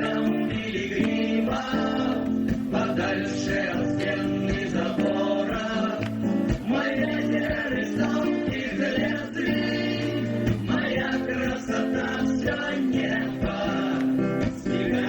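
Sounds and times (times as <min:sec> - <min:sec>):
person singing: 0:00.0 - 0:15.0.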